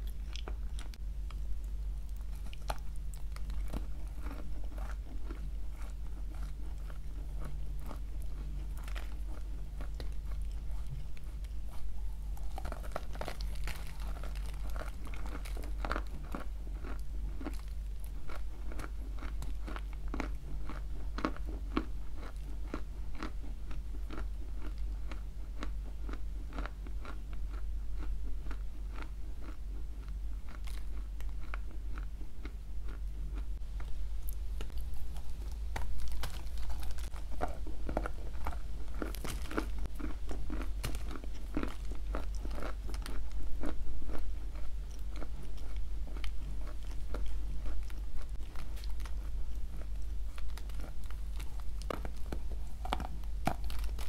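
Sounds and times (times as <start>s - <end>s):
crunchy chewing close up: 0.0s - 54.0s
steady low hum: 0.0s - 54.0s.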